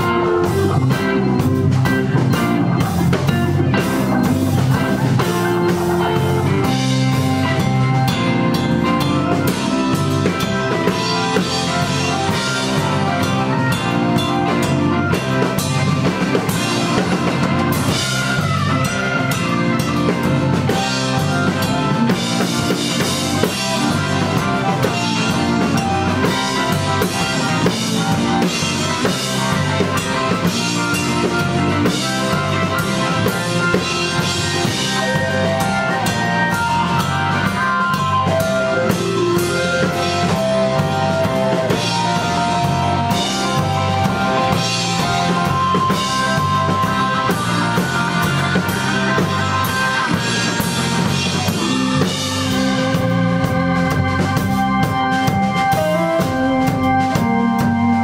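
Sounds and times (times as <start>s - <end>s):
blues-rock band playing: 0.0s - 58.0s
drum and cymbal hits: 0.0s - 58.0s
electric bass: 0.0s - 58.0s
electric guitar: 0.0s - 58.0s.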